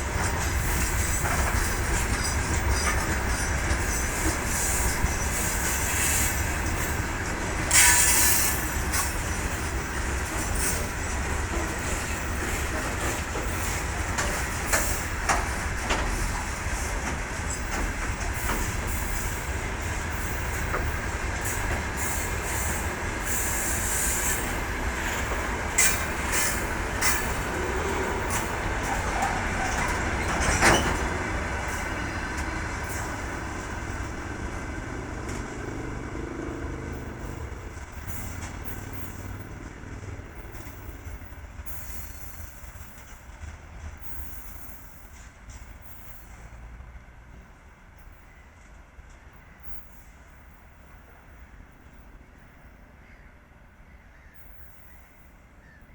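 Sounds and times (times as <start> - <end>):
train wheels clacking over rail joints: 0.0 - 46.6.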